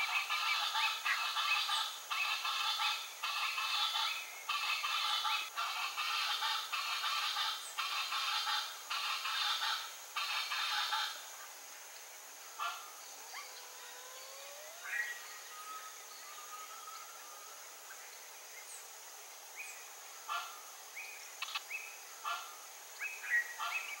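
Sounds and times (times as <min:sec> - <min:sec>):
wild birds calling: 0:00.0 - 0:11.3, 0:12.5 - 0:18.8, 0:19.6 - 0:24.0
steady high-pitched hiss: 0:00.0 - 0:24.0.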